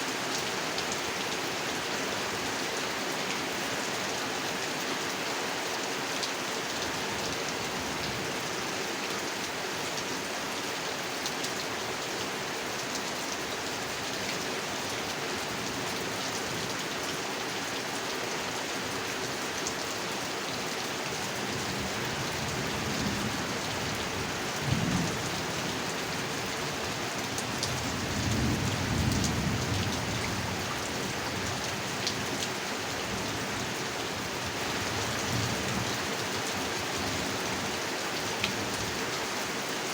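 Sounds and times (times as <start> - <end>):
heavy rain on a pond: 0.0 - 39.9.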